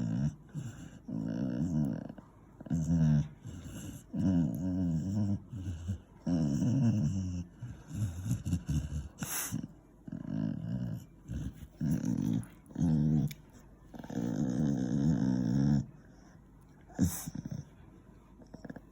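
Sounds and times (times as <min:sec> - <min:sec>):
dog growling: 0:00.0 - 0:17.8, 0:18.4 - 0:18.9.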